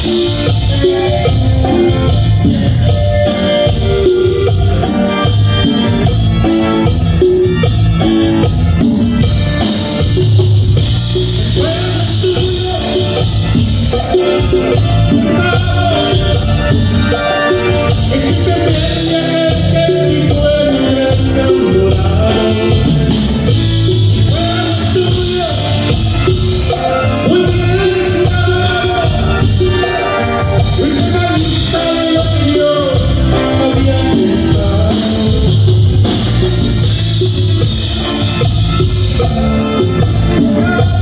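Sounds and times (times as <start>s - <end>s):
drum kit beats: 0.0s - 41.0s
live band playing: 0.0s - 41.0s.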